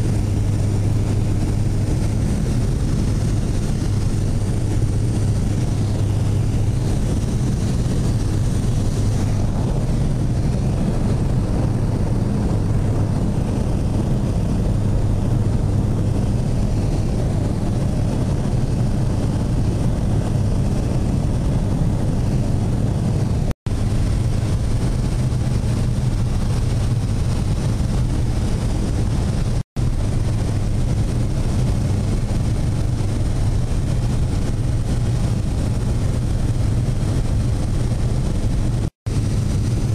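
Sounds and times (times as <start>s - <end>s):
aircraft engine hum in cabin: 0.0s - 39.9s
rush of air: 0.0s - 39.9s.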